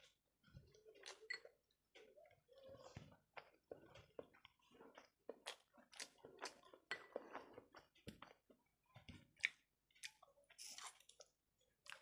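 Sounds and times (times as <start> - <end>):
person chewing with mouth smacks: 0.0 - 12.0.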